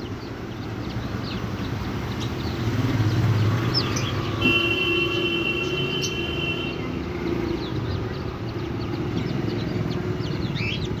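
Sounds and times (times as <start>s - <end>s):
ducklings peeping: 0.0s - 4.4s, 5.6s - 11.0s.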